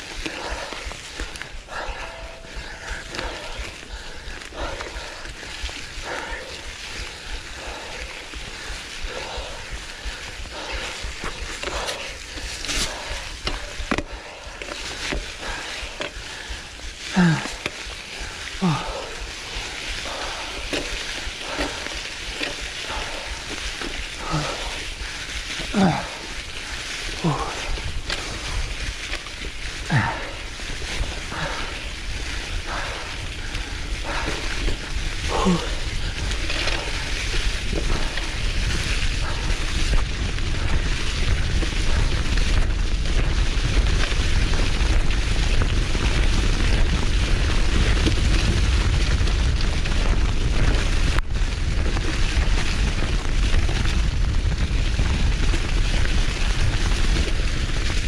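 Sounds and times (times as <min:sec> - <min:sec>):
bike tyres rolling over leaves: 0:00.0 - 0:58.0
wind buffeting microphone: 0:00.0 - 0:58.0.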